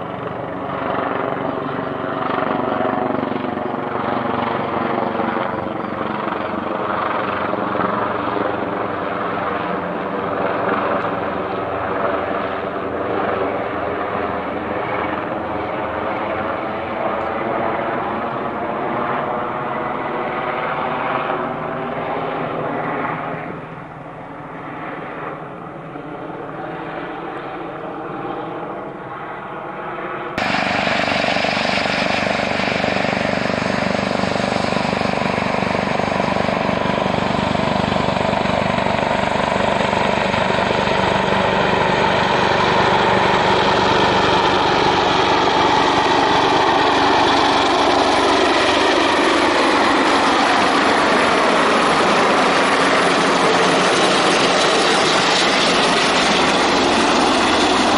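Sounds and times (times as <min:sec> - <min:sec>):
helicopter rotor and turbines: 0:00.0 - 0:57.9.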